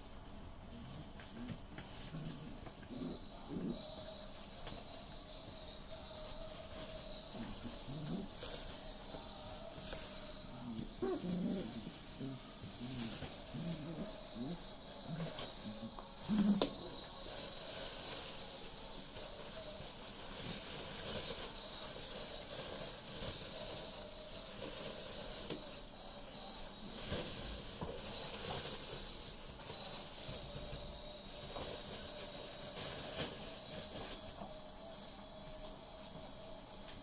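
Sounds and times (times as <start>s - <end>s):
steady hiss: 0.0s - 37.0s
puppies scuffling on hard floor: 0.1s - 37.0s.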